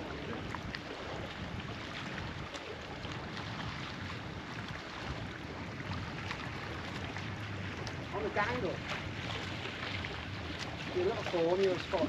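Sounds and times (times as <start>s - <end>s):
sea washing against rocks: 0.0s - 12.0s
wind noise on microphone: 0.0s - 12.0s.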